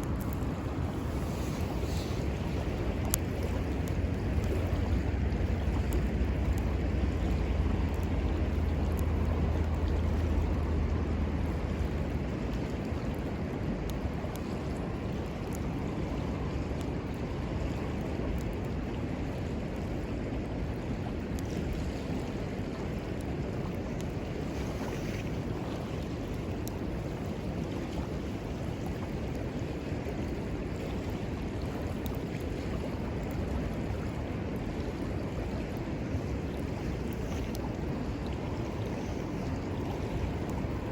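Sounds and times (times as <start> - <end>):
campfire crackling: 0.0 - 40.9
river water flowing: 0.0 - 40.9.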